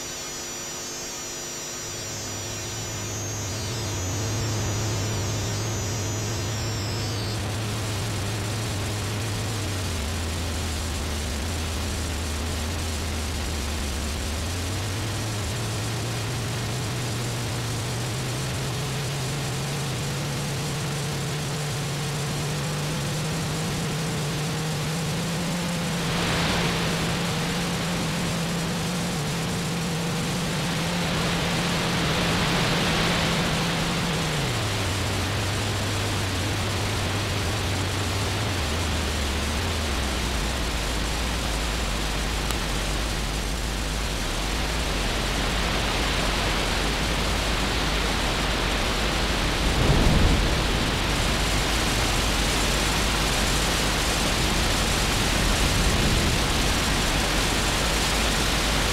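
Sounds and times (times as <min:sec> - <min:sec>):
constant hiss: 0:00.0 - 0:58.9
low buzzing electronic drone: 0:00.0 - 0:58.9.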